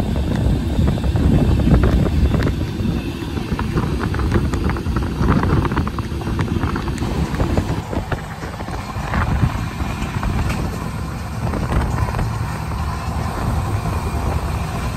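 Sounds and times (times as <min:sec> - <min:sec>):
train wheels rumbling on track: 0:00.0 - 0:14.9
wind on microphone: 0:00.0 - 0:14.9.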